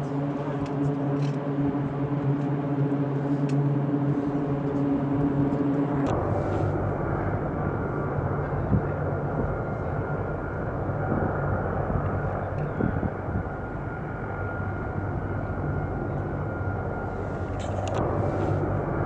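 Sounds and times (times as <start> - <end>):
turboprop engines running: 0.0 - 19.0.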